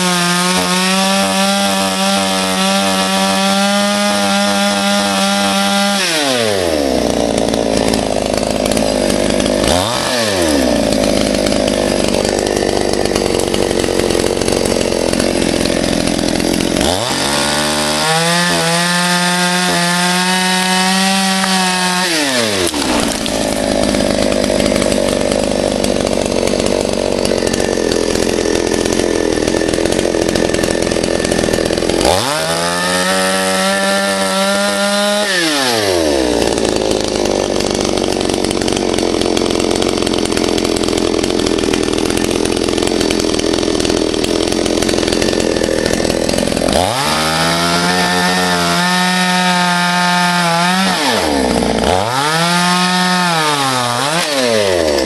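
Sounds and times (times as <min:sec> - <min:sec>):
chainsaw cutting and revving: 0:00.0 - 0:55.0.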